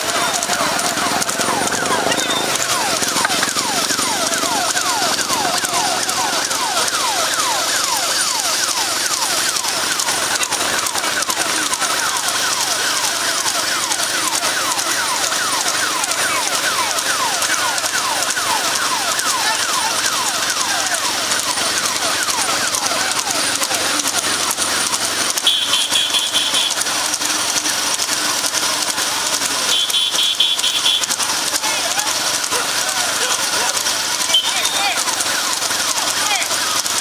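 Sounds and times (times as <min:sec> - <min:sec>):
electronic siren wailing: 0:00.0 - 0:37.0.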